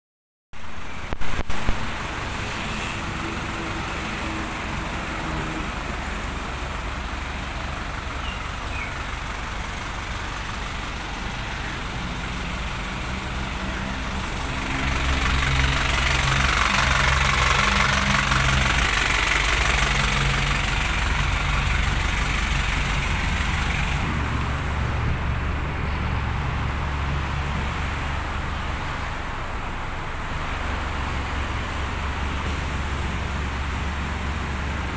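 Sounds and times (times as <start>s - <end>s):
diesel truck engine idling: 0.6s - 34.9s.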